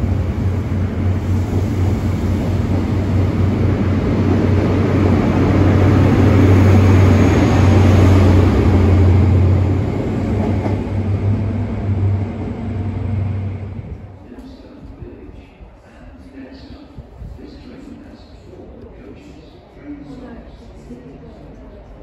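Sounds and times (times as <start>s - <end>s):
train coaches rumbling on rails: 0.0s - 22.0s.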